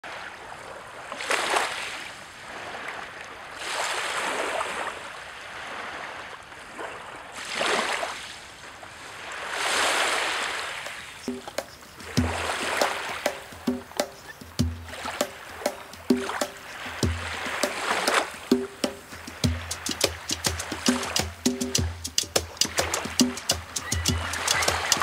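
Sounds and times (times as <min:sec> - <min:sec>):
waves on pebble beach: 0:00.1 - 0:25.0.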